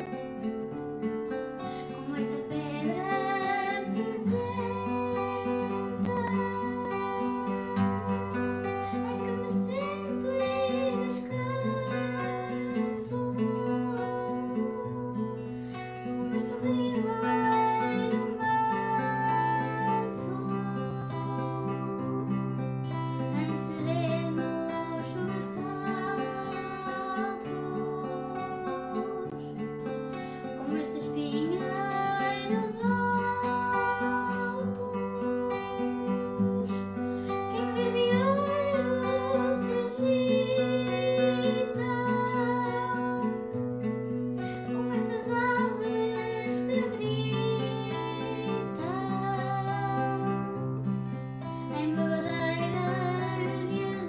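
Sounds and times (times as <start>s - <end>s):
person singing: 0.0s - 0.6s, 1.3s - 54.0s
acoustic guitar song: 0.0s - 54.0s.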